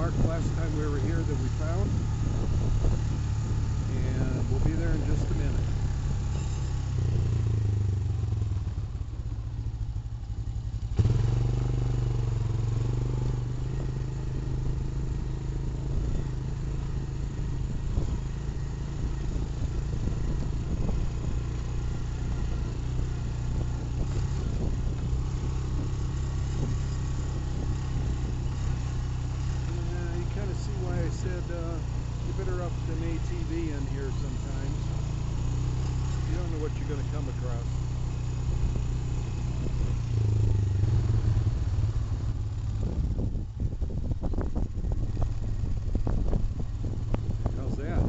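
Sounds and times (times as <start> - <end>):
quad bike engine running: 0.0 - 48.0.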